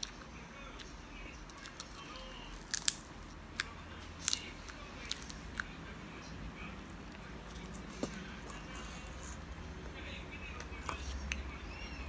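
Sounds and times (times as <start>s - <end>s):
hard candy cracking between teeth: 0.0s - 9.7s.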